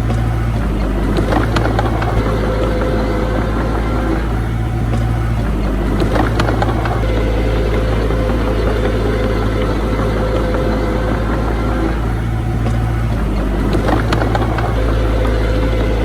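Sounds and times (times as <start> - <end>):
diesel engine of heavy machinery: 0.0 - 16.0.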